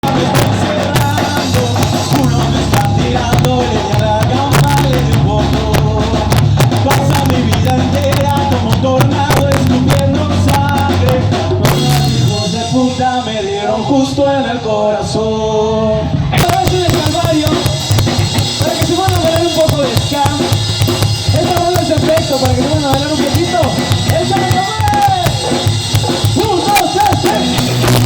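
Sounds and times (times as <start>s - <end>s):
drum kit: 0.0s - 13.9s, 15.9s - 28.0s
bass: 0.0s - 28.0s.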